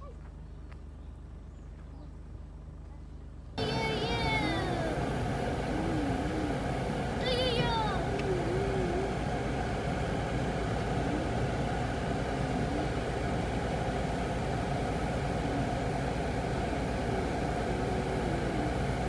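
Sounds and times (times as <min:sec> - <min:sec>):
engine idling: 0:00.2 - 0:19.0
faint wavering tones: 0:03.6 - 0:19.0.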